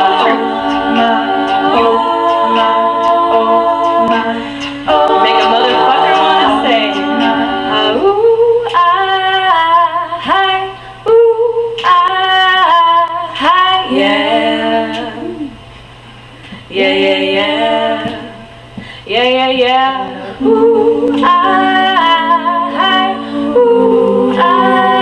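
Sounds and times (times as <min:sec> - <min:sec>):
women singing a cappella harmony: 0:00.0 - 0:15.8, 0:16.5 - 0:25.0.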